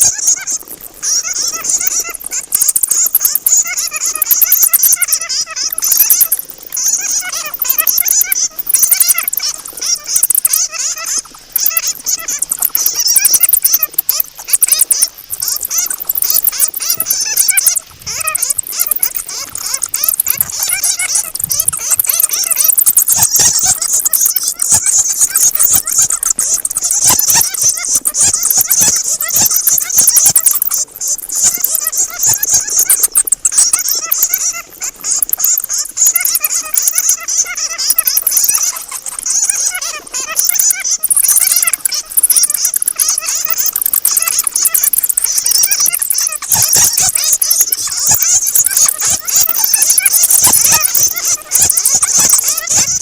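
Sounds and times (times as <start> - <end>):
fruit bats squealing: 0.0 - 53.0.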